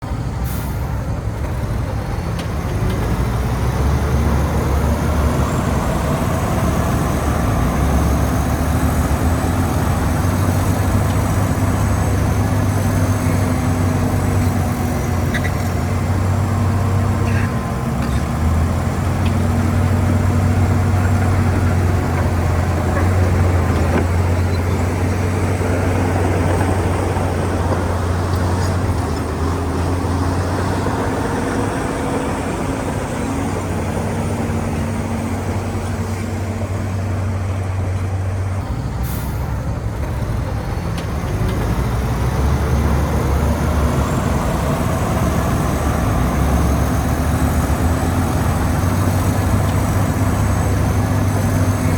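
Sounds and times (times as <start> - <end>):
heavy diesel engine under load: 0.0 - 51.9.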